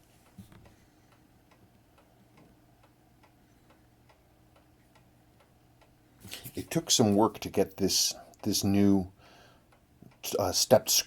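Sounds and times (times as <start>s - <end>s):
faint regular ticking: 0.0s - 11.0s.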